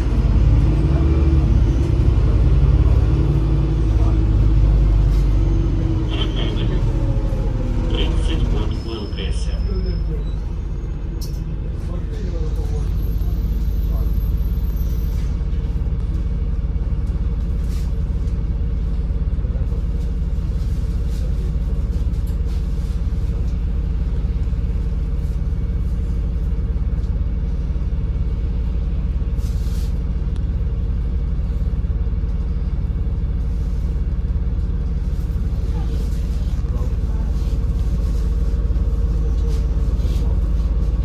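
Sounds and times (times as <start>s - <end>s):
bus engine and road noise: 0.0s - 41.0s.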